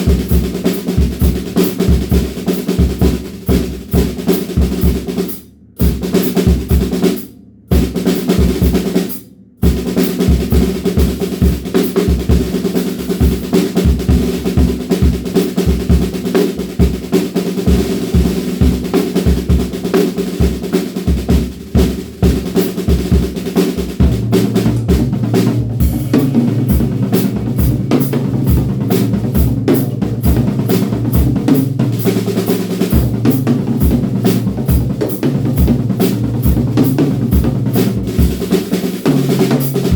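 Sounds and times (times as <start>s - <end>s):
drum kit rock groove: 0.0s - 39.9s
deep ringing drum tone: 5.8s - 38.5s.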